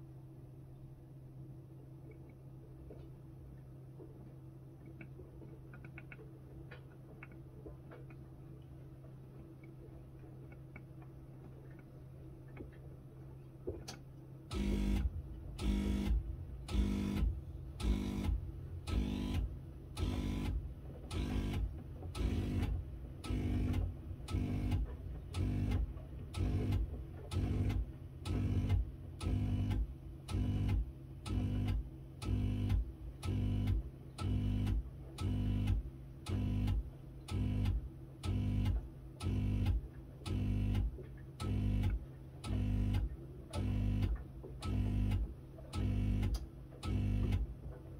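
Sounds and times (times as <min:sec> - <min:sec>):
washing machine humming: 0:01.1 - 0:47.9.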